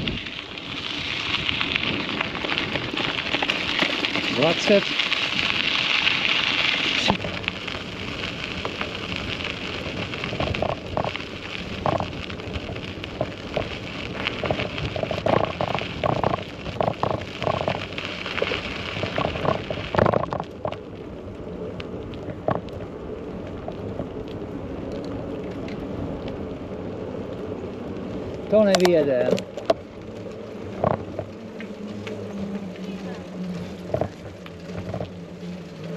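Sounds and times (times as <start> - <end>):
bicycle rattles: 0.0 - 35.9
bicycle tyres rolling: 0.0 - 35.9.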